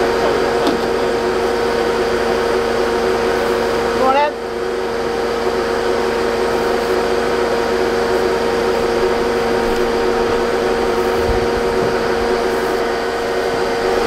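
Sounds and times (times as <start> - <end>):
air compressor whining: 0.0 - 14.0.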